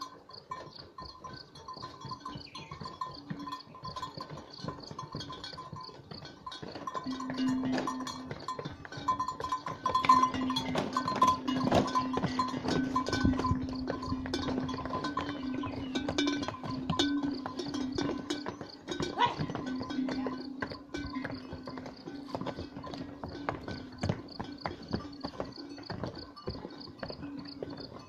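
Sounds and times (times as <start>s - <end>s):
animal bells ringing: 0.0s - 28.0s
hooves clattering on stone steps: 0.0s - 28.0s.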